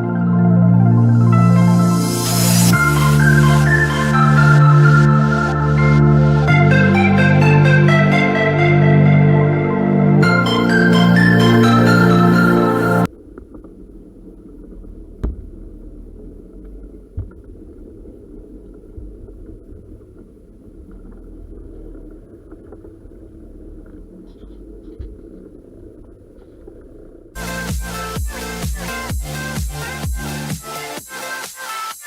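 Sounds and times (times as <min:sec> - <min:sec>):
boat engine rumbling: 0:00.0 - 0:30.5.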